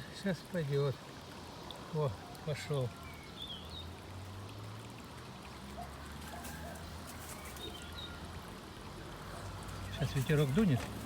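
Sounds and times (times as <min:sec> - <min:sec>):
water trickling into drain: 0:00.0 - 0:11.0.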